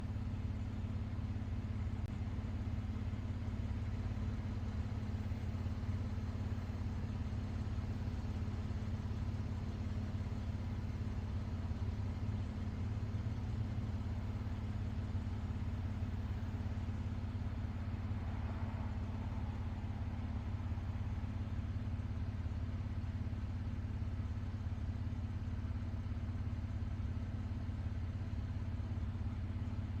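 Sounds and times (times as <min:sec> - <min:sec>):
steady low rumble: 0:00.0 - 0:26.5.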